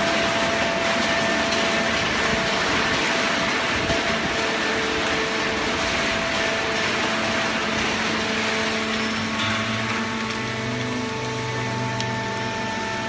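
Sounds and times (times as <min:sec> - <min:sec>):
baler mechanical hum and hiss: 0:00.0 - 0:13.0
deeper hum: 0:00.0 - 0:13.0.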